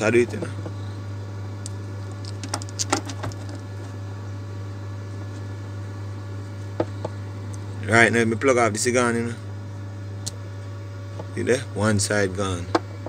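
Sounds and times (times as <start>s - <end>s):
faint high buzzing tones: 0.0s - 13.0s
low electrical hum: 0.0s - 13.0s.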